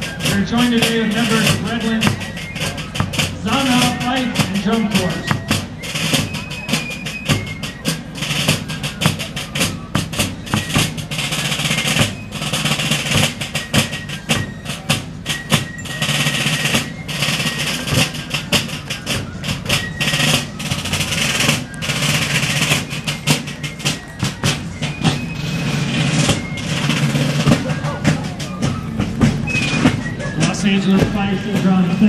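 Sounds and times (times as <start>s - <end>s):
snare drums playing rolls: 0.0s - 32.0s.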